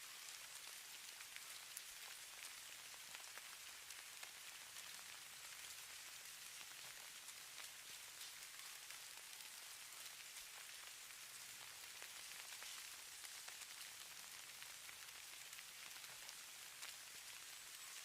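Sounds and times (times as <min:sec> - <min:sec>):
tiny ticks of grains landing: 0:00.1 - 0:18.0.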